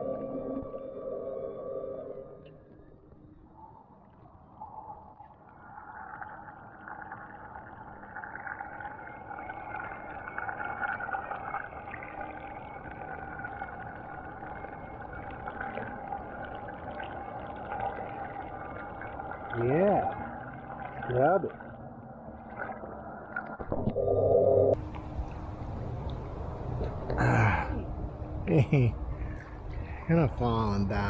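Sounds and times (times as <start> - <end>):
underwater motor hum: 0.0 - 31.0
muffled water wash: 2.2 - 31.0.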